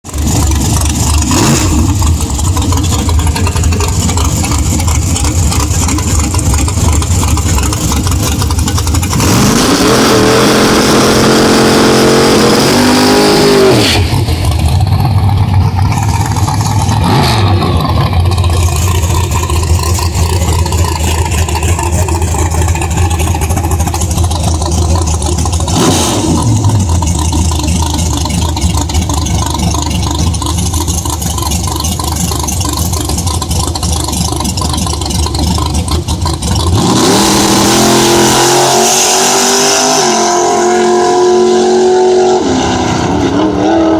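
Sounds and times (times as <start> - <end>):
drag race car engine revving: 0.1 - 43.9.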